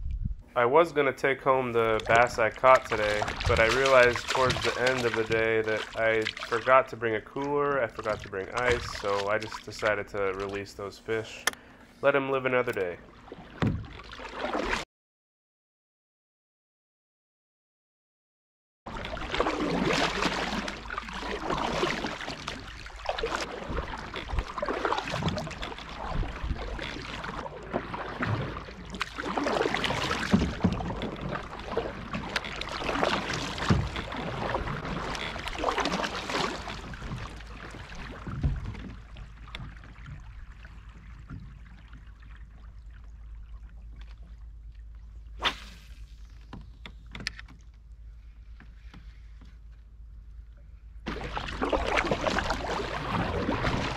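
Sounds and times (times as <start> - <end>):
paddle strokes in water: 1.5 - 14.8, 18.9 - 53.9.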